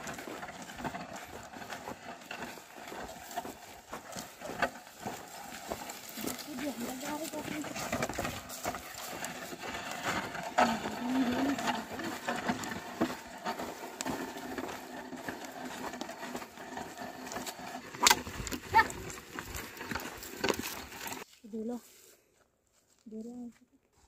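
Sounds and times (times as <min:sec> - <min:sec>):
plough scraping dirt: 0:00.0 - 0:21.8
oxen hoofsteps: 0:00.0 - 0:24.0.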